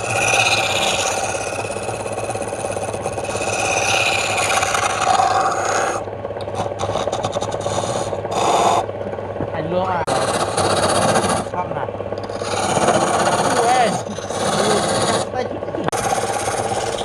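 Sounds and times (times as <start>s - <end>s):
lathe motor hum: 0.0s - 17.0s
tool scraping spinning wood: 0.0s - 17.0s.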